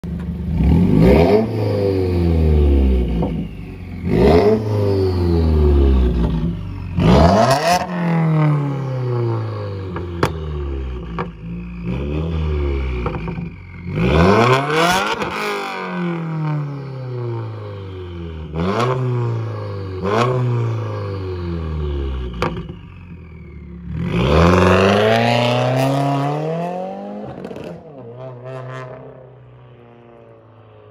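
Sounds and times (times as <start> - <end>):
car engine revving: 0.2 - 30.9.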